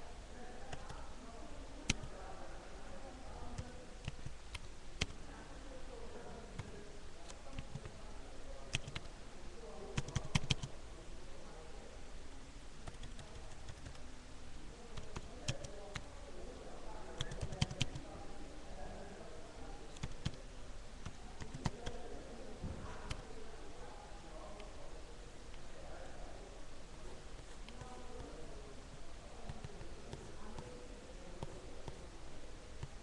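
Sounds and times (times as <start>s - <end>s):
faint voices: 0.0s - 33.0s.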